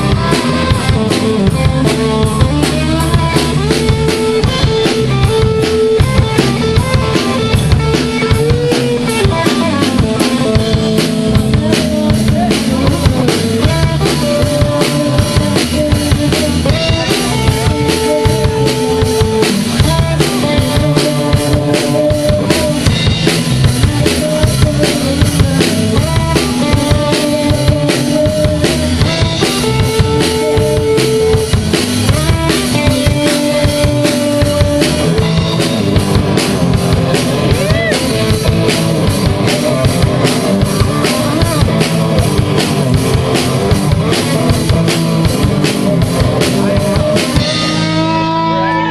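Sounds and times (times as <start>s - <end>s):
drum kit fast beat: 0.0s - 48.9s
held guitar notes: 0.0s - 48.9s
live rock band playing: 0.0s - 48.9s.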